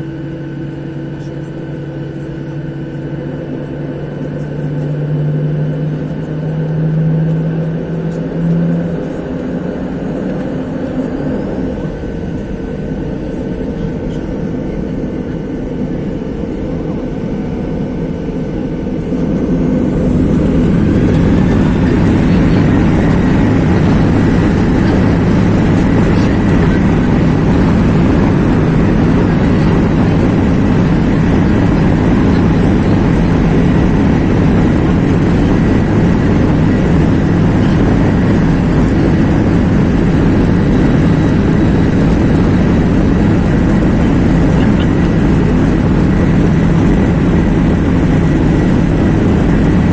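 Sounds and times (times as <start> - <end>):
jet engines roaring in cabin: 0.0 - 49.9.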